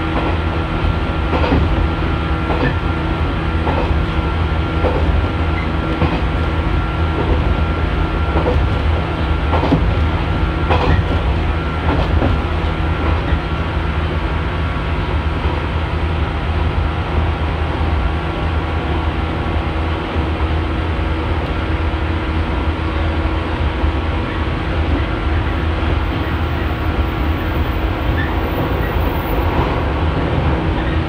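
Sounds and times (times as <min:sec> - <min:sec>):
train rumble and hum: 0:00.0 - 0:31.0.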